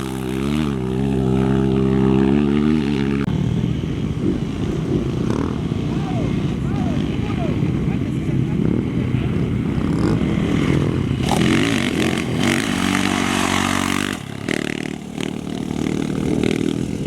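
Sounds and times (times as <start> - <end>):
race vehicle engine revving: 0.0 - 3.4, 4.2 - 17.0.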